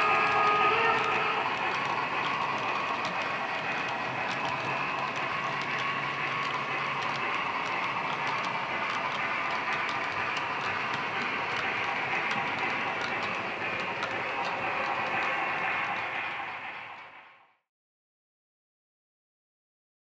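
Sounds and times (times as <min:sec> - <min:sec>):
clicks at rail joints: 0:00.0 - 0:17.3
model railway wagons rattling: 0:00.0 - 0:17.4.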